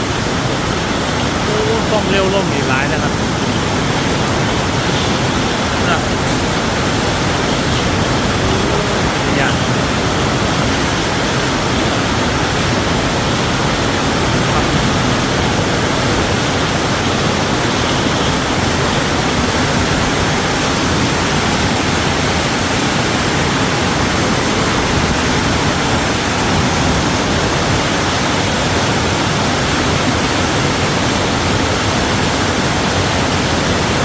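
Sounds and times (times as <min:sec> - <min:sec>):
heavy rain in strong wind: 0:00.0 - 0:34.0.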